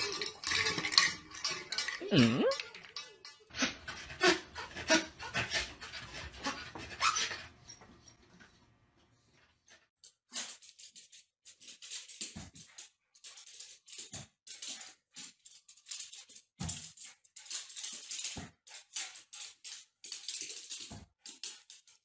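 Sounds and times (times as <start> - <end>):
puppy claws scrabbling on tiles: 0.0 - 22.0.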